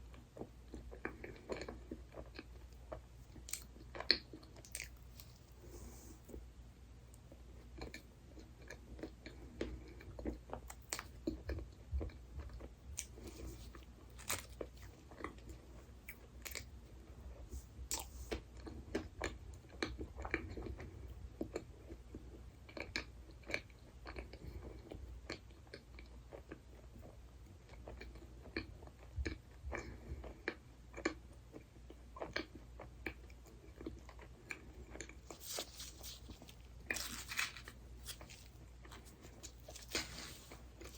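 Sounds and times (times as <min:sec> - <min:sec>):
person chewing crunchy dessert: 0:00.0 - 0:06.5, 0:07.2 - 0:40.9.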